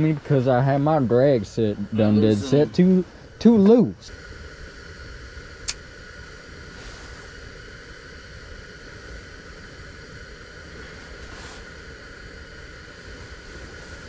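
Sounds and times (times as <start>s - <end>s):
faint high hum: 0.0s - 14.0s
steady hiss: 0.0s - 14.0s.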